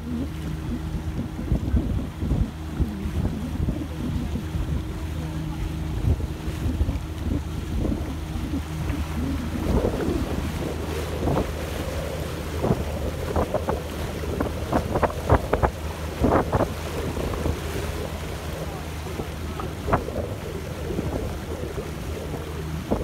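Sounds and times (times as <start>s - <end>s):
low hum: 0.0s - 23.0s
water rushing along hull: 0.0s - 23.0s
waves splashing and slapping: 0.0s - 23.0s
wind buffeting microphone: 0.0s - 23.0s.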